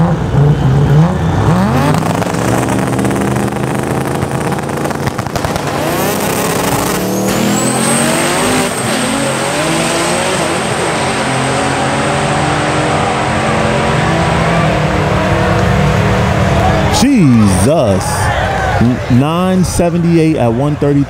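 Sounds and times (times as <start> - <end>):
car engines revving hard: 0.0 - 19.8.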